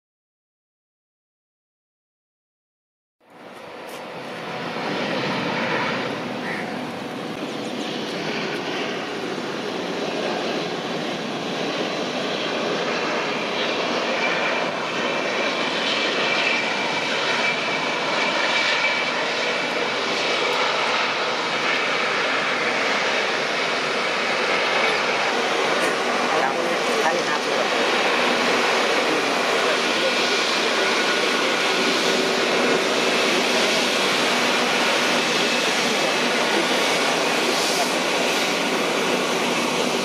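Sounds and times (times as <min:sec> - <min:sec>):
jet engines rushing: 0:03.3 - 0:40.0.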